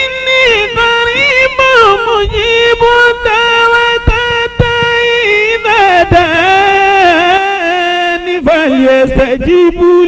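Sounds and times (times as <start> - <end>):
man chanting recitation: 0.0 - 10.0.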